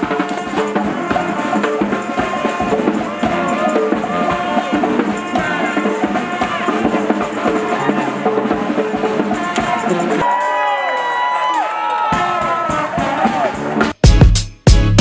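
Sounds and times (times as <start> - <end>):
music with percussive beat: 0.0 - 15.0.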